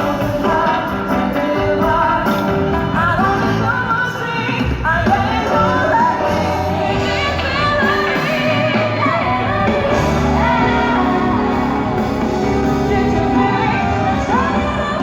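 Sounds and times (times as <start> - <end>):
loud band accompaniment: 0.0 - 15.0.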